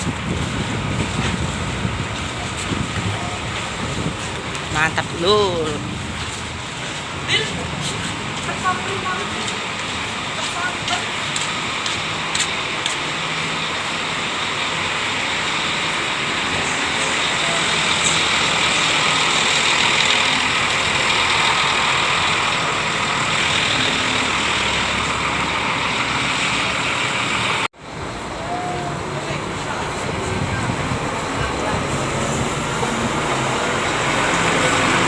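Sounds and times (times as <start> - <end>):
coach engine idling: 5.8 - 35.0.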